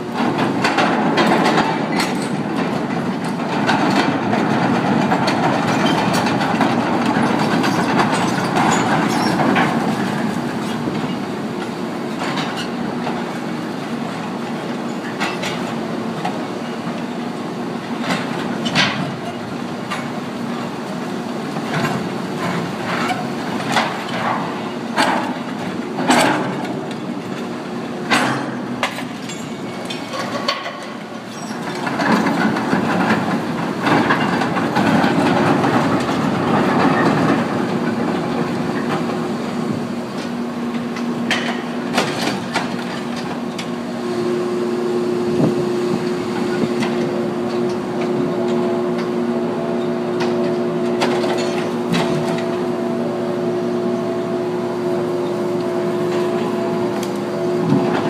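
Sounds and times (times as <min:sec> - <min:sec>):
excavator diesel engine and hydraulics: 0:00.0 - 0:58.0.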